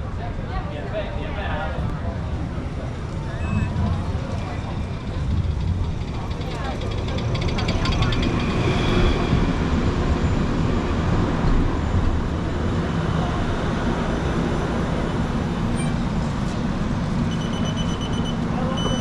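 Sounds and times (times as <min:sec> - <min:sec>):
tram rolling rumble: 0:00.0 - 0:19.0.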